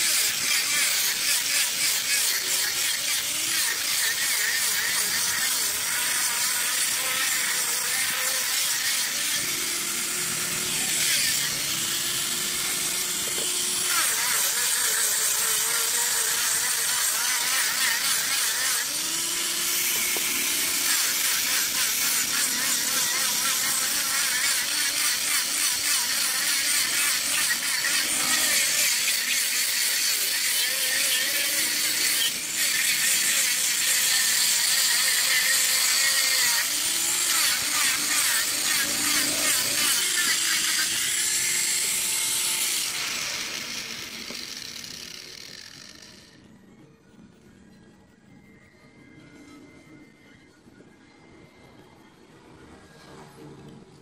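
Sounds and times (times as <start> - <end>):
angle grinder grinding wood: 0.0 - 46.5.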